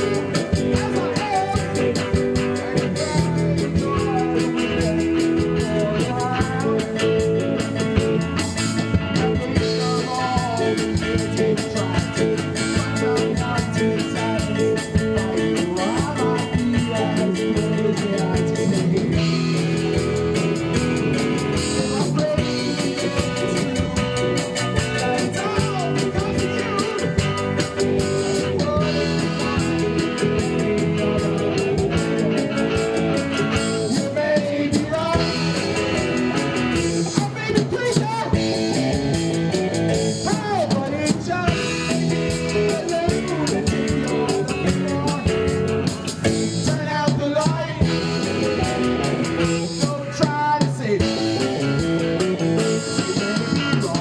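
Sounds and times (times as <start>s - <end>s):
bass guitar: 0.0s - 54.0s
drum kit with cymbals: 0.0s - 54.0s
electric guitars: 0.0s - 54.0s.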